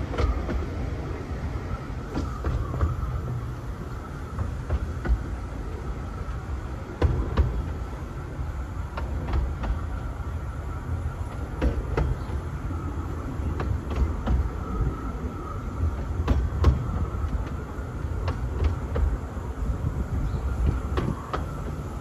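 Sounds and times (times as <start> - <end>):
train carriage rumbling: 0.0 - 22.0
wheels clicking over rail joints: 0.0 - 22.0.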